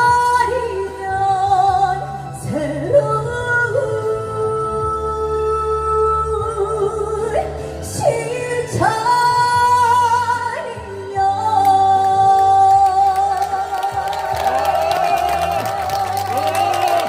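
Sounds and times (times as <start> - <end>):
musical accompaniment: 0.0 - 17.0
woman singing with vibrato: 0.0 - 17.0.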